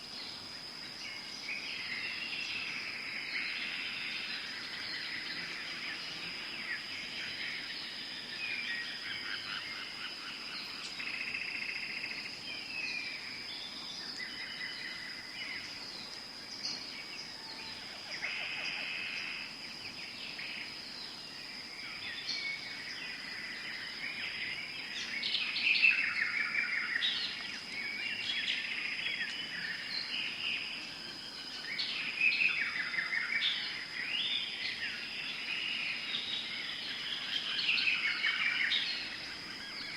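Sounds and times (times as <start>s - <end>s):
birds calling and chirping: 0.0s - 39.9s.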